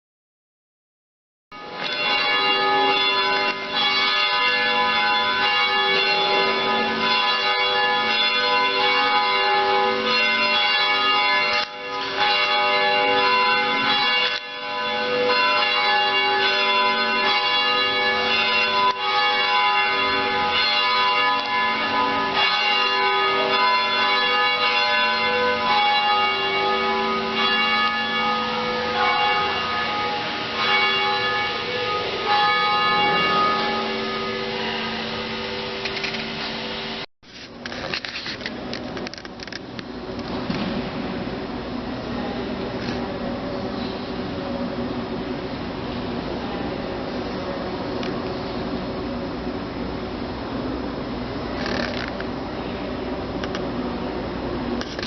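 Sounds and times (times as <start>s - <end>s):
church bells pealing: 1.6s - 37.1s, 40.9s - 55.0s.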